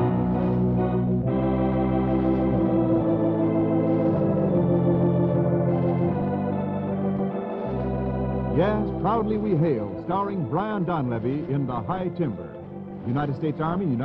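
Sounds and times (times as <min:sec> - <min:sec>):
held organ chords: 0:00.0 - 0:14.0.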